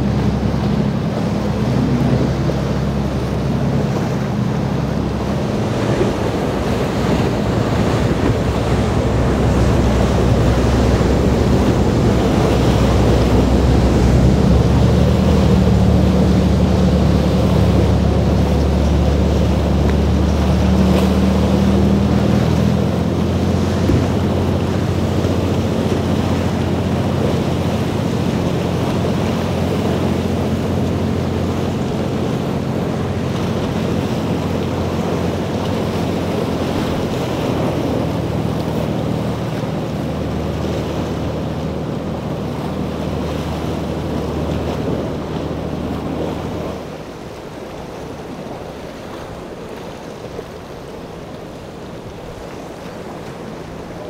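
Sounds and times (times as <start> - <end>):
wind buffeting microphone: 0.0 - 46.9
crashing surf: 0.0 - 54.0
motorboat engine droning: 0.0 - 54.0.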